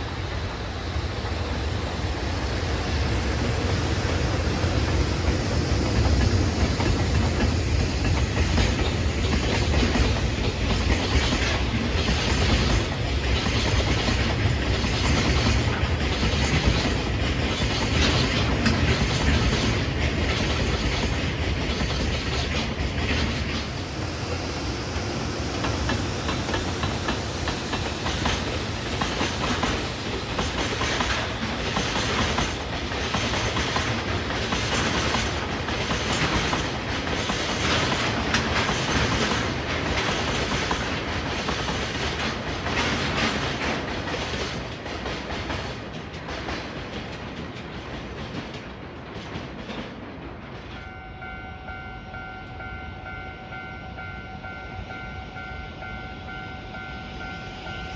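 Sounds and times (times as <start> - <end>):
freight train rumbling past: 0.0 - 57.9
train wheels clicking over rail joints: 0.1 - 50.9.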